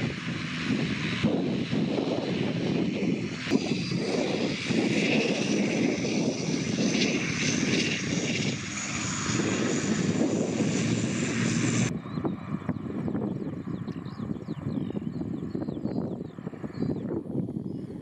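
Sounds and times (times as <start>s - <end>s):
turboprop engines running loudly: 0.0s - 18.0s.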